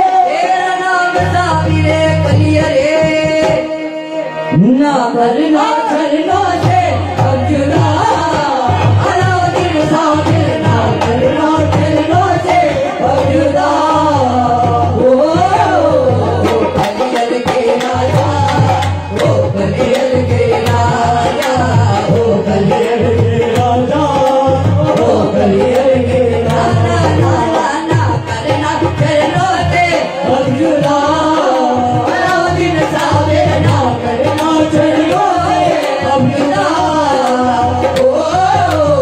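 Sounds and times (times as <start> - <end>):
backing singers: 0.0 - 39.0
harmonium: 0.0 - 39.0
man singing: 0.0 - 39.0
hand drum beat: 6.4 - 39.0.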